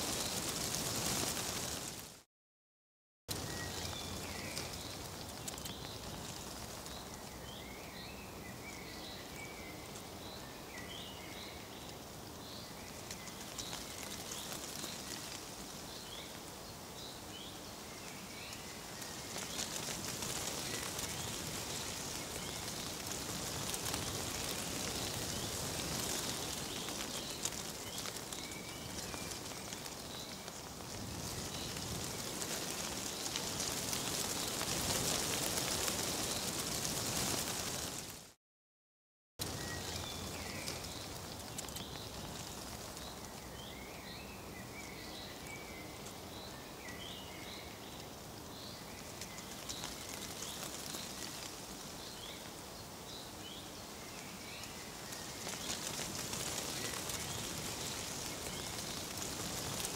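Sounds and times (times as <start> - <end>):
dry leaves rustling: 0.0 - 2.2, 3.3 - 38.4, 39.4 - 59.9
small birds chirping: 3.3 - 38.0, 39.4 - 59.9.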